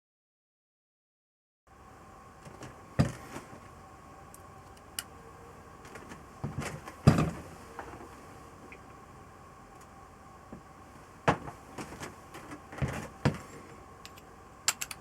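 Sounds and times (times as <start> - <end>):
faint steady hum: 1.7 - 15.0.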